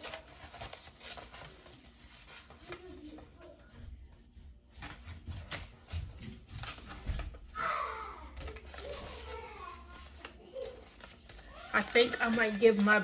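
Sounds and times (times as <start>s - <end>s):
paper cards rustling and tapping: 0.0s - 13.0s.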